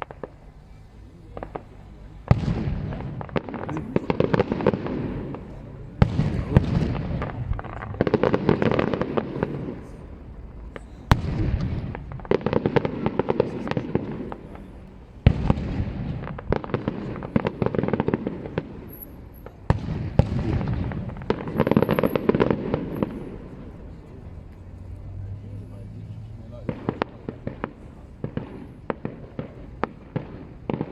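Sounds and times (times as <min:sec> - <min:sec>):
dense crackling of fireworks: 0:00.0 - 0:30.9.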